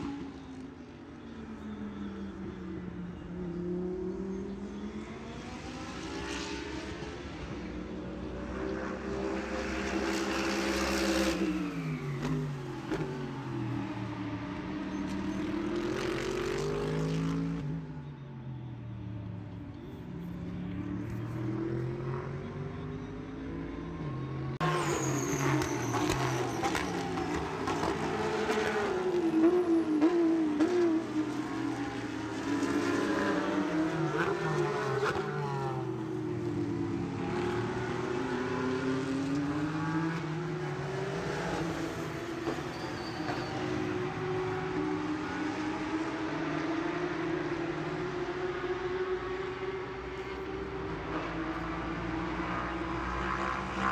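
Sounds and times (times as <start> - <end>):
race car engines at high revs: 0.0 - 18.2, 20.5 - 53.9.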